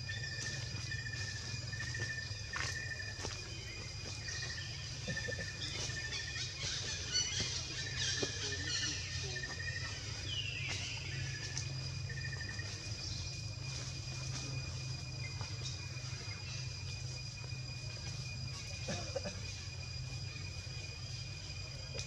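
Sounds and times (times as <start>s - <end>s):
bird-like chirps: 0.4s - 20.4s.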